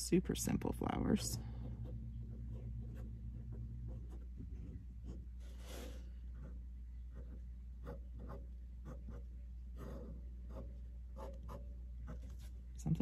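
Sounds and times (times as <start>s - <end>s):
low steady hum: 0.0s - 13.0s
ink pen scratching on paper: 1.8s - 12.5s.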